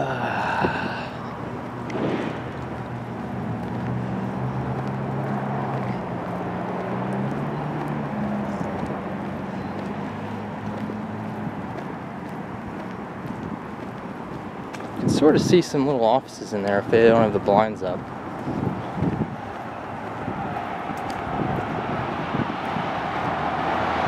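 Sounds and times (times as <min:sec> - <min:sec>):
outdoor background noise: 0:00.0 - 0:24.0
vehicle engine humming: 0:00.0 - 0:24.0.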